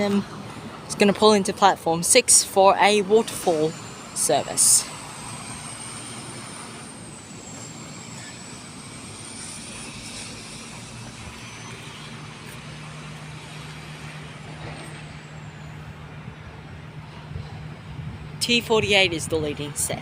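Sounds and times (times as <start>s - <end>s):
electric train rumble and hum: 0.0s - 20.0s
high-pitched train whine: 0.0s - 20.0s.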